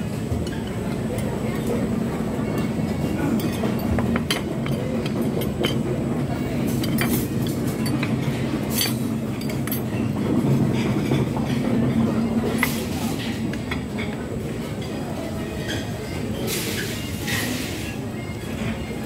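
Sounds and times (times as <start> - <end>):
busy restaurant din: 0.0 - 19.0
cutlery and plates clinking: 2.5 - 18.8.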